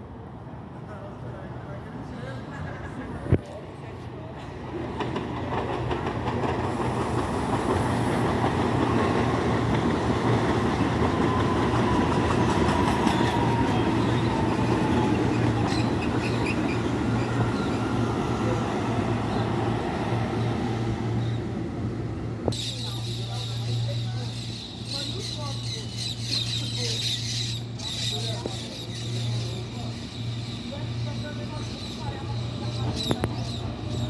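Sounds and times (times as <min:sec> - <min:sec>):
train wheels rumbling on rail: 0:00.9 - 0:34.0.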